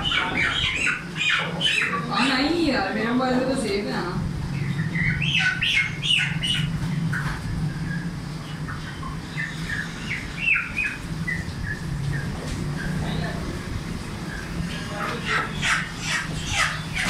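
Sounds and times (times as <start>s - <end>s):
birds calling: 0.0s - 17.0s
steady low hum: 0.0s - 17.0s.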